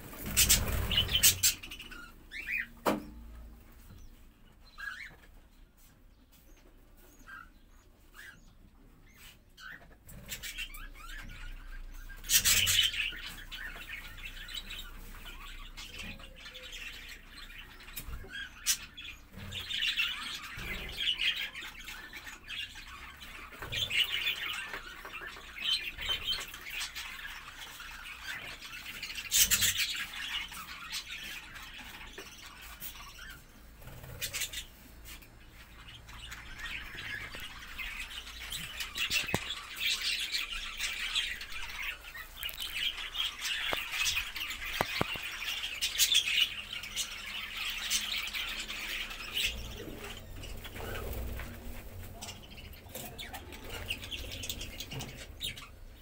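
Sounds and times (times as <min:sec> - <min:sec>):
budgerigars chattering and warbling: 0:00.0 - 0:02.8, 0:03.9 - 0:05.3, 0:07.0 - 0:56.0.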